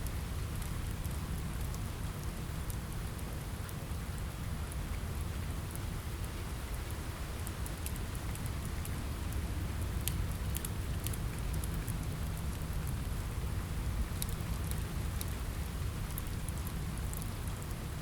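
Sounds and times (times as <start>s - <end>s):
rain on a window: 0.0s - 18.0s
wood fire crackling: 0.0s - 18.0s.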